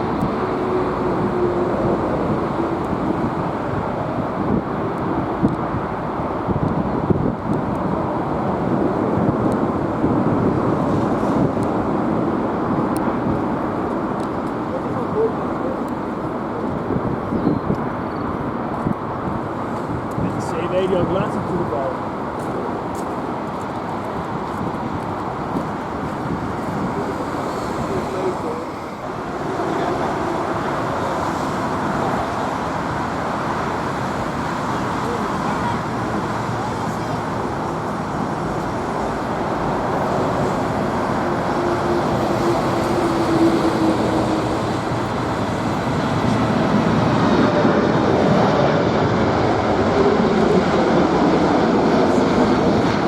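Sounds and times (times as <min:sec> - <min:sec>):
jet engines rumbling: 0:00.0 - 0:53.0
wind buffeting microphone: 0:00.0 - 0:53.0.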